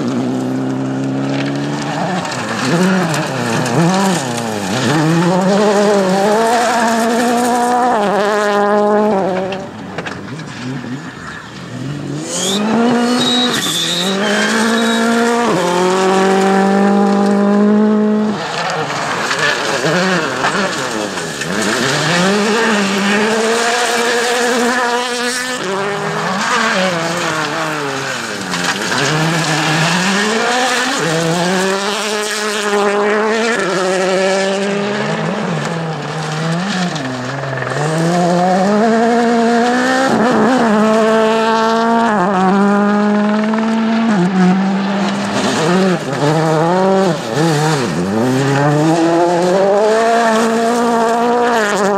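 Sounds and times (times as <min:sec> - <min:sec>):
rally car engine revving: 0:00.0 - 0:51.9
tyres on gravel: 0:00.0 - 0:51.9.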